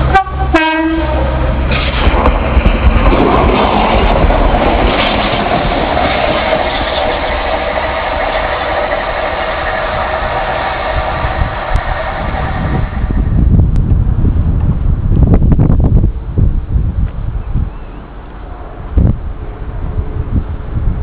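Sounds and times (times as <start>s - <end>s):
diesel train engine drone: 0.0s - 21.0s
train running on track: 0.0s - 21.0s.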